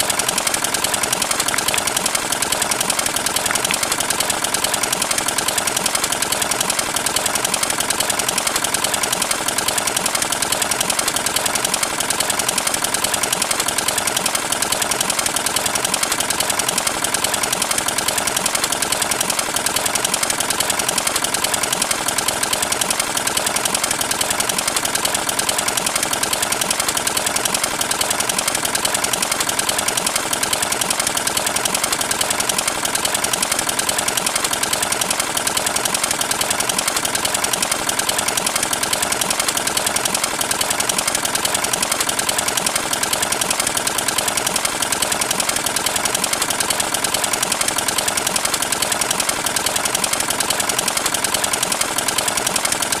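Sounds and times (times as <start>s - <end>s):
diesel engine knocking: 0.0s - 53.0s.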